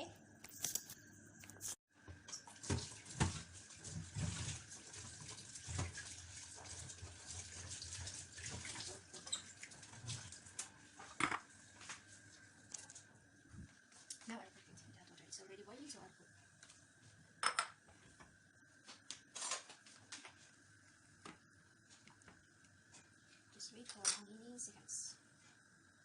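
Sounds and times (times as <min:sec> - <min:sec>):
tap water running in a sink: 0:01.9 - 0:26.0.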